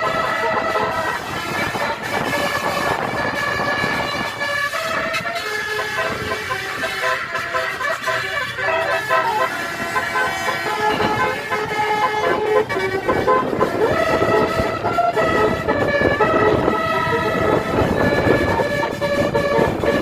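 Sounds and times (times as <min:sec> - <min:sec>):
musical air horn tune: 0:00.0 - 0:20.0
traffic noise: 0:00.0 - 0:20.0.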